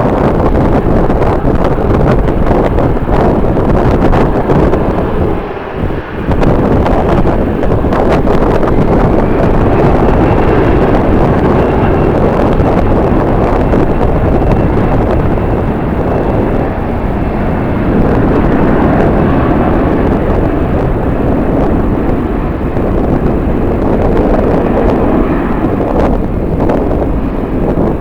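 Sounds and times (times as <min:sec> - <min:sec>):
jet engine noise: 0:00.0 - 0:28.0
wind buffeting microphone: 0:00.0 - 0:28.0.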